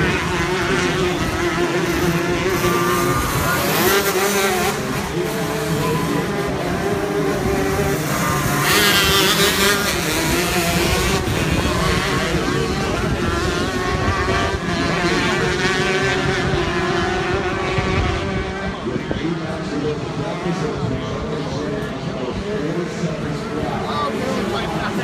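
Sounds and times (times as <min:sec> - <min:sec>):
kart engines racing: 0:00.0 - 0:25.0.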